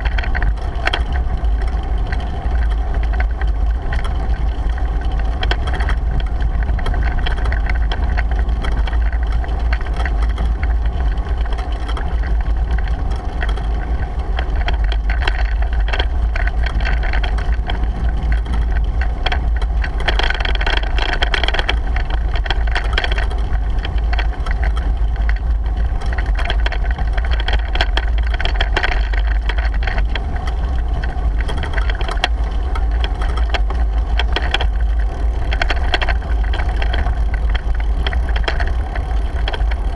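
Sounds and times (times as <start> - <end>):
bike rattles and clicks: 0.0 - 39.9
wind buffeting microphone: 0.0 - 39.9.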